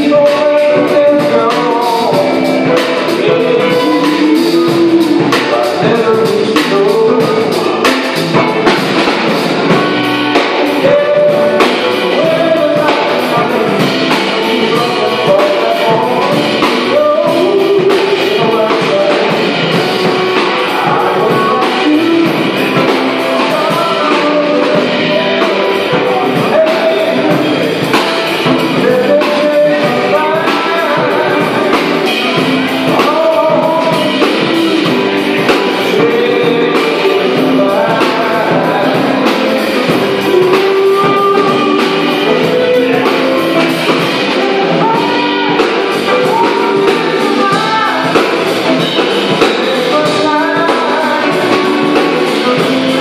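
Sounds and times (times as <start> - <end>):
drum kit beat: 0.0 - 53.0
electric guitars: 0.0 - 53.0.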